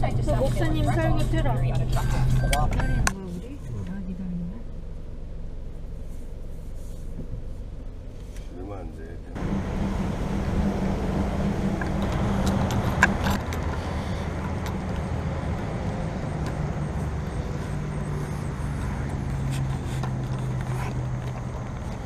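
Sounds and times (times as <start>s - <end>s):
outdoor noise: 0.0s - 22.0s
vehicle engine humming: 0.0s - 22.0s.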